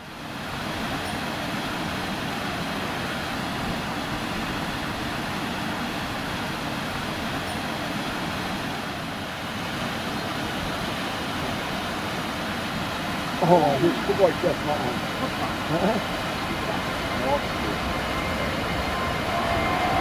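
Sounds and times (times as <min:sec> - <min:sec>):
distant jet engines rushing: 0:00.0 - 0:20.0.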